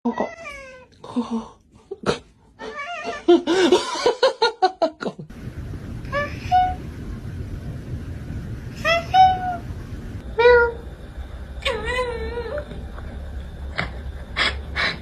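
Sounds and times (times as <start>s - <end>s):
steady background hum: 0.2s - 15.0s.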